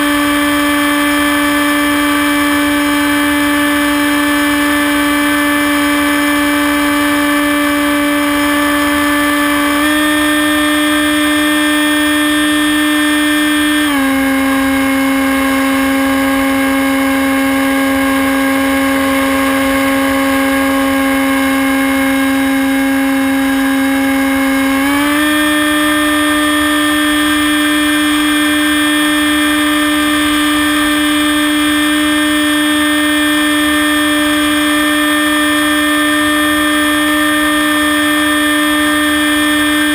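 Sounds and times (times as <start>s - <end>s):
model plane motor whining: 0.0s - 39.9s.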